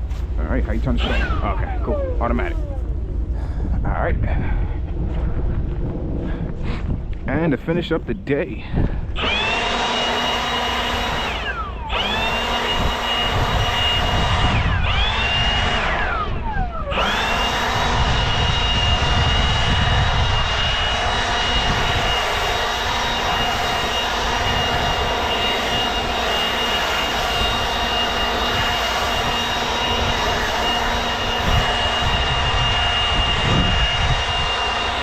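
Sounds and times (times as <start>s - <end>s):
leaf blower motor whine: 0.0s - 3.7s, 8.8s - 35.0s.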